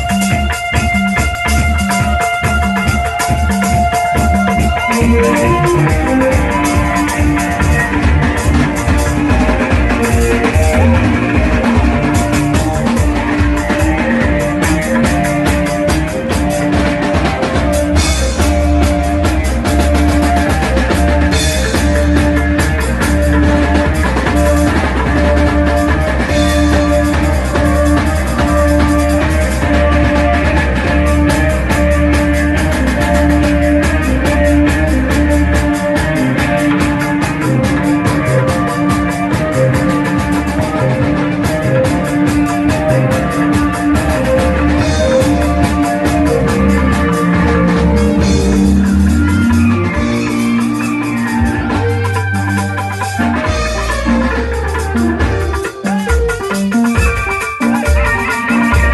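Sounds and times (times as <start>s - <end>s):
bass line: 0.0s - 58.9s
drum kit fast beat: 0.0s - 58.9s
rock instrumental music: 0.0s - 58.9s.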